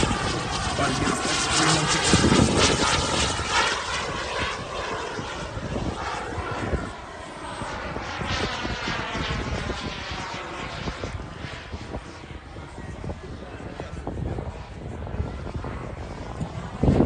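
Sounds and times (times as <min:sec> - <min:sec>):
model airplane engine passing: 0:00.0 - 0:17.0.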